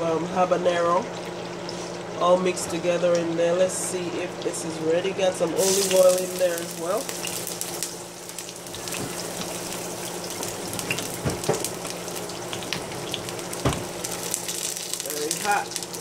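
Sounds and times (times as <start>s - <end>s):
oil frying with crackles: 0.0s - 16.0s.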